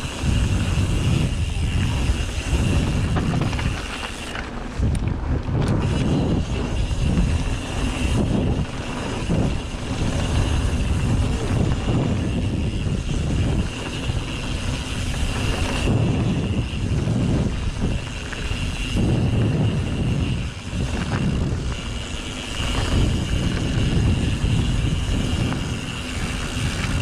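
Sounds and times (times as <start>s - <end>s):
bike tyres rolling on dirt: 0.0s - 27.0s
wind rumbling on microphone: 0.0s - 27.0s.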